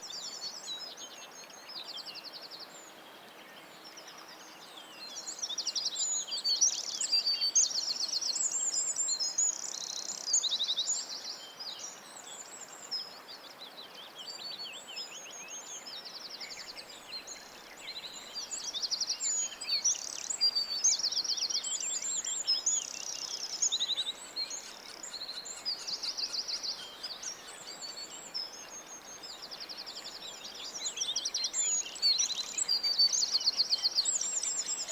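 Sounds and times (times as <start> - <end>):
faint outdoor hiss: 0.0 - 34.9
songbirds singing: 0.0 - 34.9.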